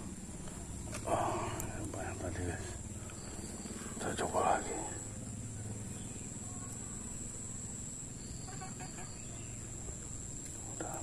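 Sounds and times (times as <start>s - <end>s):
high-pitched insect trill: 0.0s - 11.0s
faint animal calls: 1.0s - 9.9s.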